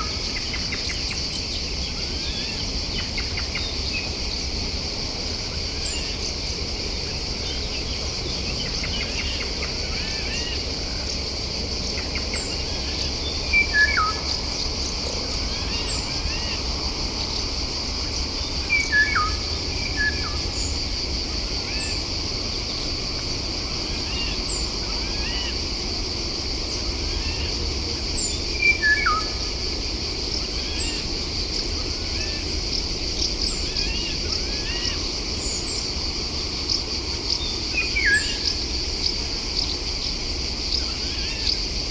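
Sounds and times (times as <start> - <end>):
insect drone: 0.0 - 41.9.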